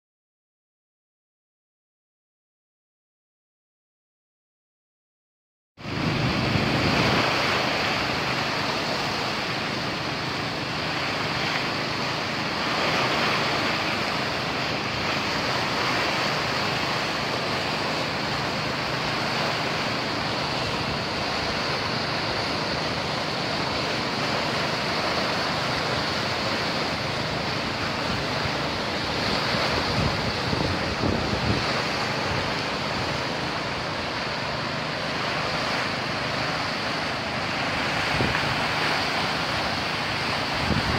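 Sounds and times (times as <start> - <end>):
water rushing through sluice gate: 5.8 - 40.9.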